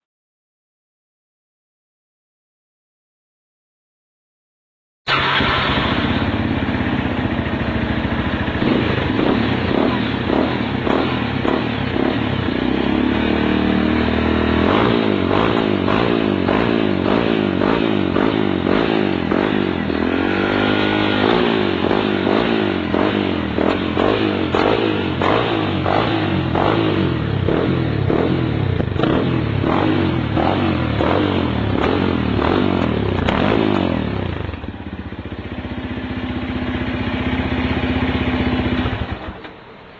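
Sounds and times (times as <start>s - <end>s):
motorcycle engine revving: 5.1s - 39.6s.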